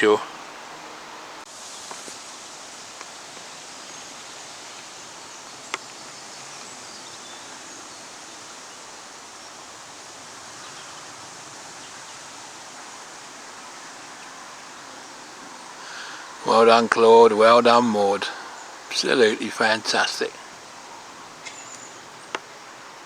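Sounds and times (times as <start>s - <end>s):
outdoor ambient hiss: 0.0s - 23.0s.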